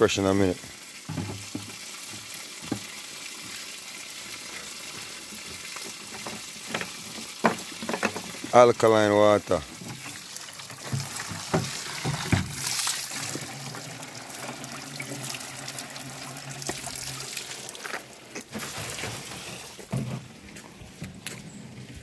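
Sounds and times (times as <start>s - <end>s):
water pouring into plastic jug: 0.3s - 20.0s.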